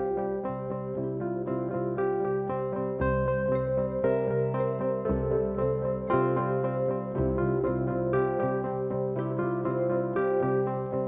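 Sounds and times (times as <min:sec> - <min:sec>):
soft ambient instrumental music: 0:00.0 - 0:11.0.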